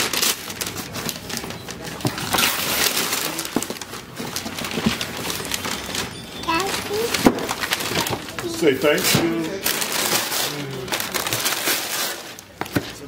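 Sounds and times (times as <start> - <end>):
wrapping paper rustling: 0.0 - 13.0.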